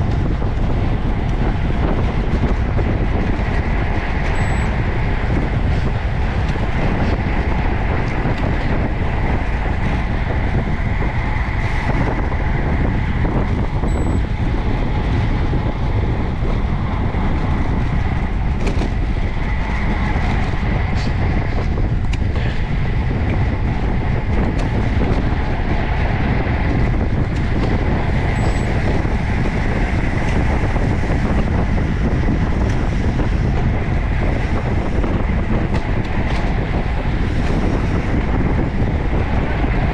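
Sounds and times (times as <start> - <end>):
bicycle tyre noise on road: 0.0 - 39.9
wind on microphone: 0.0 - 39.9.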